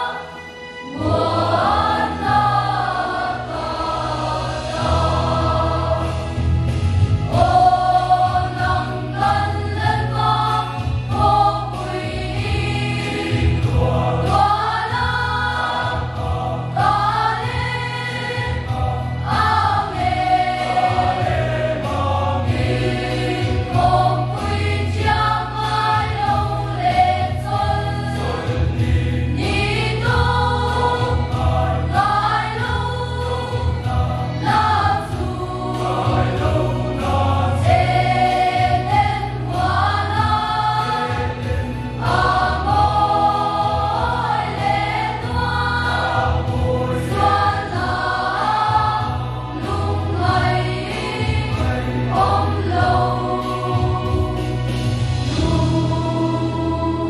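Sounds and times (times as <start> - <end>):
choir singing a hymn: 0.0 - 57.0
low accompaniment: 0.0 - 57.0.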